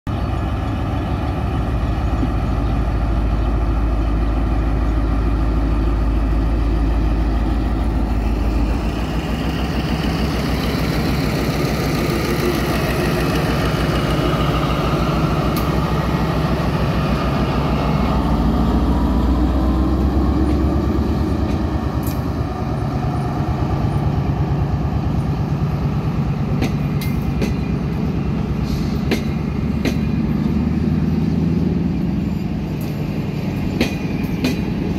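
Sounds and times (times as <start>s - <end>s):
high engine whine: 0.1s - 34.9s
locomotive engine running: 0.1s - 34.9s.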